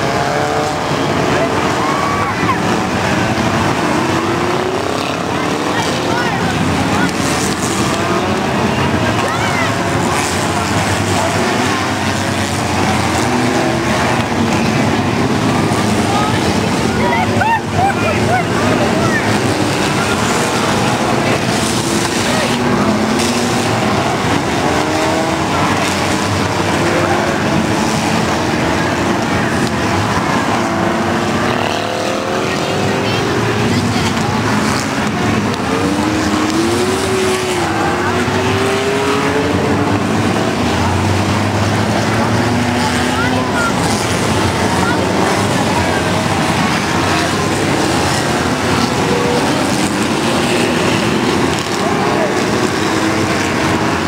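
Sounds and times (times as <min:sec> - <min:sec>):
stock car engines racing: 0:00.0 - 0:54.0.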